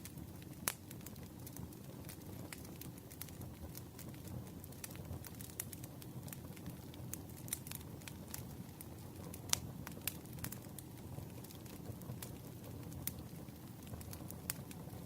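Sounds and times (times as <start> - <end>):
campfire flames rumbling: 0.0 - 15.0
fire crackling and popping: 0.0 - 15.0.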